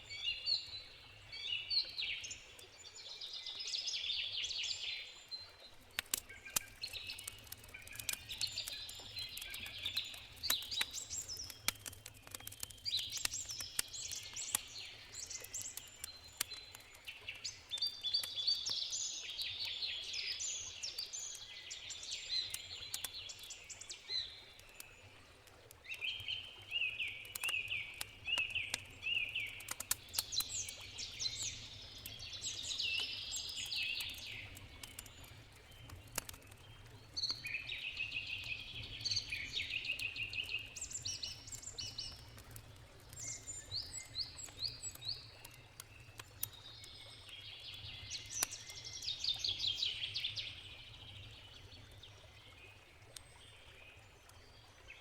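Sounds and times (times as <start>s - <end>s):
songbirds singing and chirping: 0.0s - 55.0s
campfire crackling and popping: 5.4s - 53.5s.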